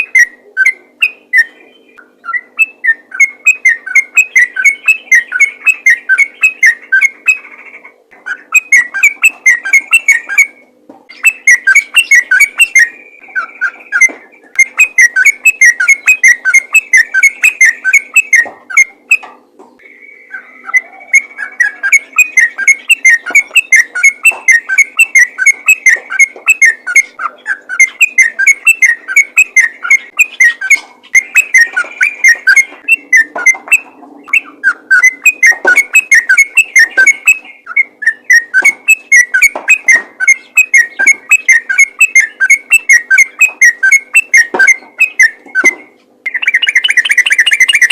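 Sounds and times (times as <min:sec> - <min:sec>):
bird singing rapid notes: 0:00.0 - 0:47.9.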